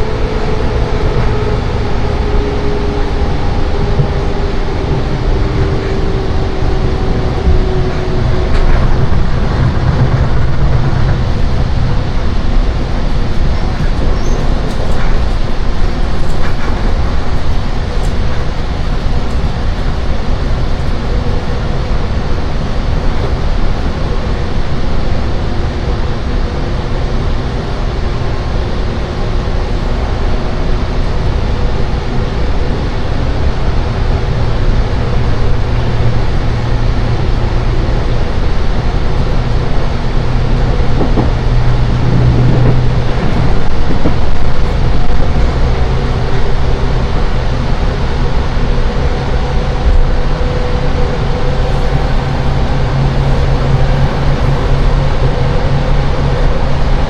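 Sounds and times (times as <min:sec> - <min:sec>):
faint whine: 0:00.0 - 0:57.0
train rumbling at speed: 0:00.0 - 0:57.0.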